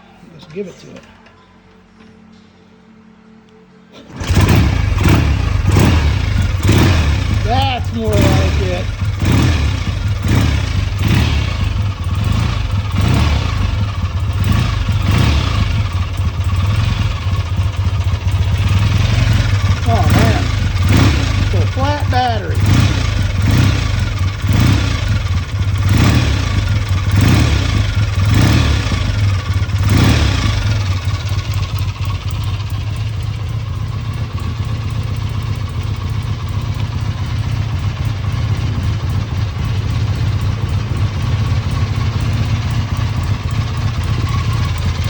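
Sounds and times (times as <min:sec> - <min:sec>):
motorcycle engine revving and idling: 0:04.0 - 0:45.0.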